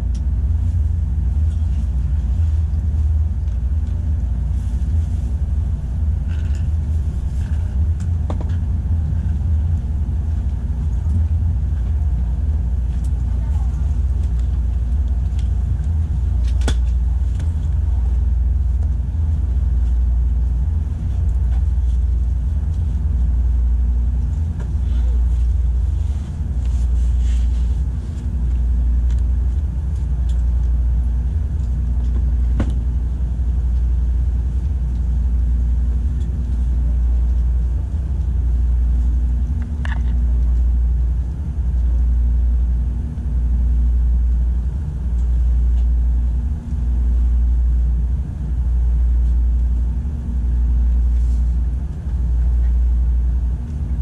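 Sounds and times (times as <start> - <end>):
train running gear rumble: 0.0 - 54.0.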